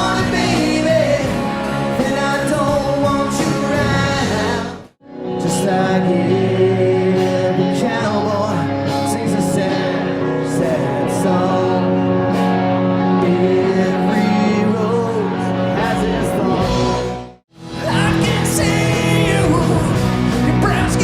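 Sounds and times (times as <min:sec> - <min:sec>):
rock music with singing: 0:00.0 - 0:21.0.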